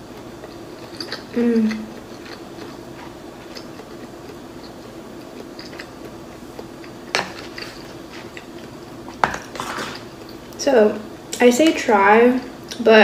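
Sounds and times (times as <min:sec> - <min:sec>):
faint steady hum: 0:00.0 - 0:13.0
chewing with wet mouth clicks: 0:00.1 - 0:10.6.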